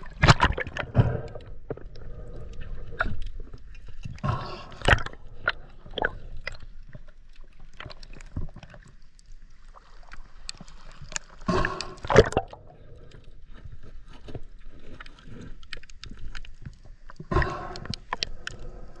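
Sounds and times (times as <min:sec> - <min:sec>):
water sloshing and gurgling: 0:00.0 - 0:19.0
small clicks and ticks: 0:01.2 - 0:19.0.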